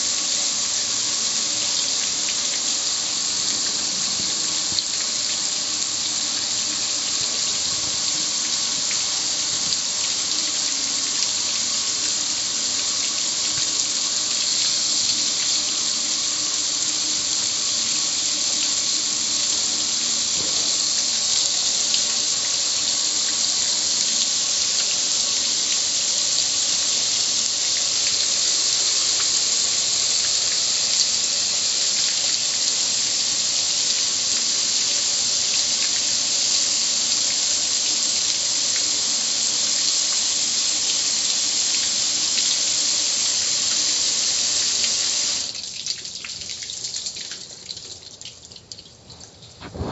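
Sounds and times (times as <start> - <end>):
hose water spraying on metal grill: 0.0 - 45.7, 49.6 - 49.9.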